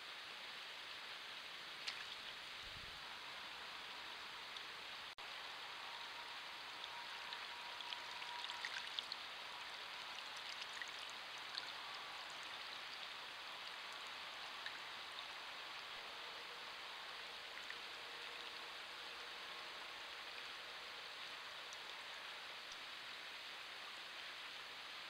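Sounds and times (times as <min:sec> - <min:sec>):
steady low hiss: 0:00.0 - 0:25.0
water splashes and drips: 0:01.4 - 0:24.7.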